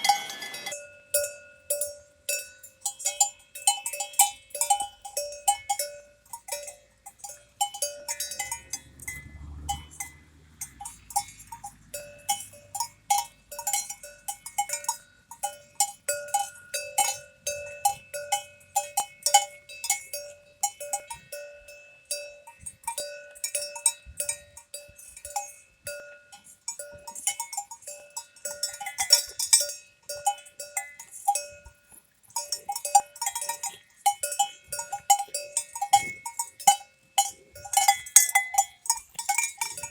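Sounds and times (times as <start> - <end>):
cowbells clanking: 0.0 - 39.9.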